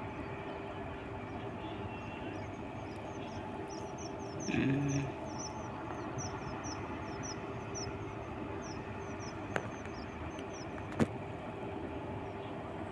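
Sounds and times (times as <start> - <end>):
train engine idling: 0.0 - 12.9.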